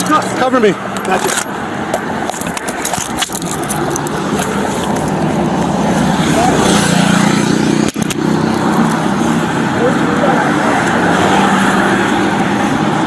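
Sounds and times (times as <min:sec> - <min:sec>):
roadway noise: 0:00.0 - 0:13.0
vehicle engine running: 0:00.0 - 0:13.0.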